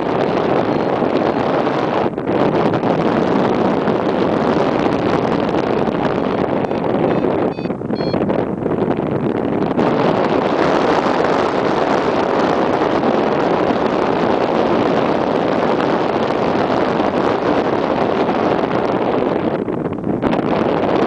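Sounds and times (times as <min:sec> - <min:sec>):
airflow rushing over microphone: 0:00.0 - 0:21.0.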